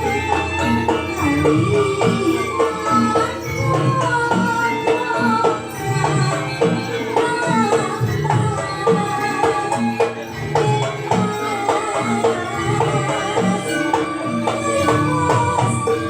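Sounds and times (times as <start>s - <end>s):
struck gamelan notes: 0.0s - 16.0s
wavering melody line: 0.0s - 16.0s.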